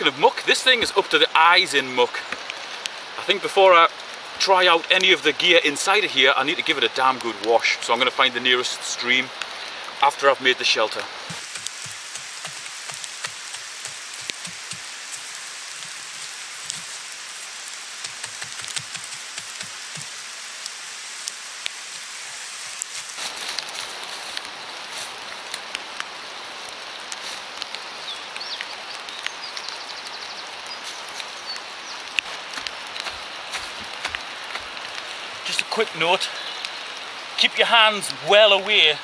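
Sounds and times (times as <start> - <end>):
steady rain hiss: 0.0 - 39.0
drips ticking on leaves: 0.1 - 38.9.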